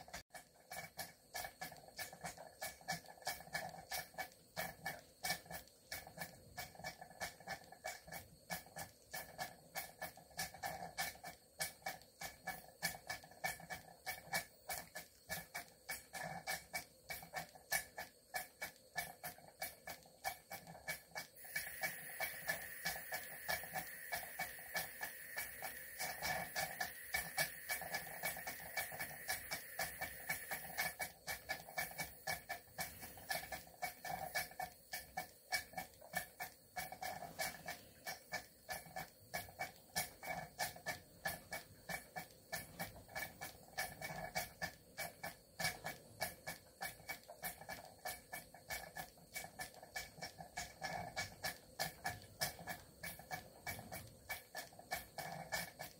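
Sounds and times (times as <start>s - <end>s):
steady hiss: 0.0s - 55.9s
steam engine exhaust puffs: 0.0s - 55.9s.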